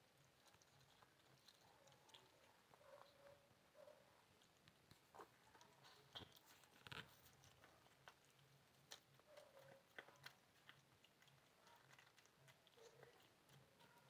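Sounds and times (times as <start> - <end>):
cat crunching dry food: 0.0 - 3.5, 4.2 - 14.0.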